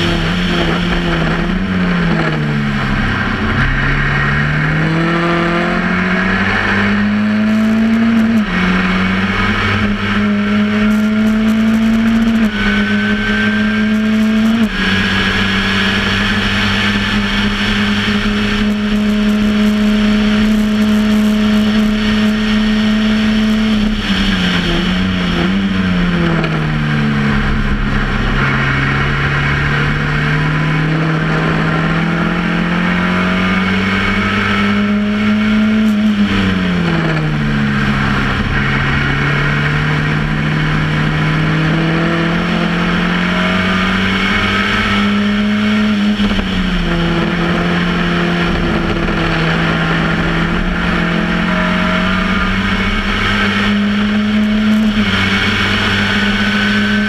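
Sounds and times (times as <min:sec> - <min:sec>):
race car engine at speed: 0:00.0 - 0:57.0
wind and road noise: 0:00.0 - 0:57.0.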